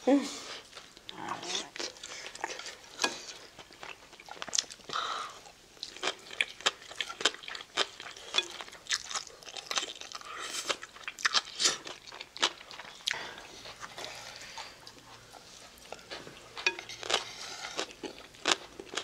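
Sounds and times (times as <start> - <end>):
person chewing food: 0.6 - 19.0.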